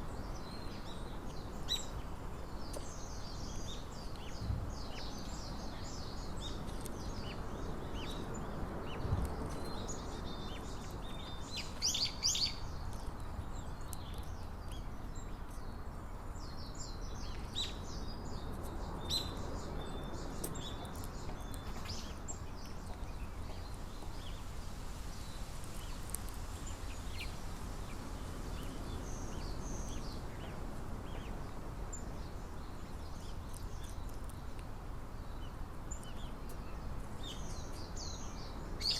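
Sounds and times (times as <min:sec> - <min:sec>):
low outdoor background hum: 0:00.0 - 0:38.9
small birds chirping: 0:00.0 - 0:38.9.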